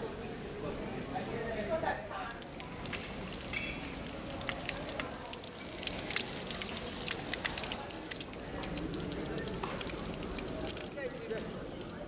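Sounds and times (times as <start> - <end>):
fountain water trickling and splashing: 1.4 - 12.0.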